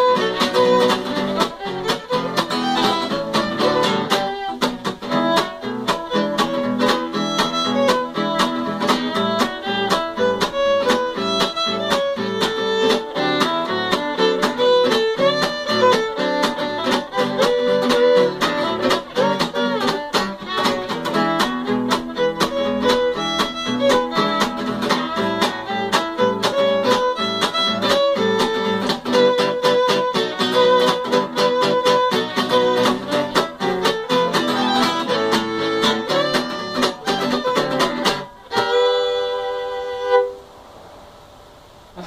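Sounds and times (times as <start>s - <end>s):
guitar strumming chunk chords: 0.0s - 40.3s
fiddle playing swing melody: 0.0s - 40.4s.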